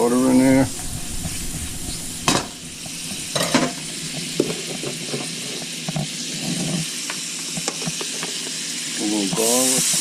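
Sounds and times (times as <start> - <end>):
butter sizzling in a frying pan: 0.0 - 10.0.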